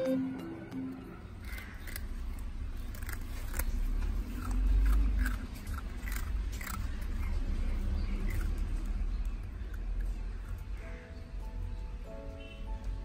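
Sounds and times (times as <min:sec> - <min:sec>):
puppies crunching biscuits: 0:00.7 - 0:13.0.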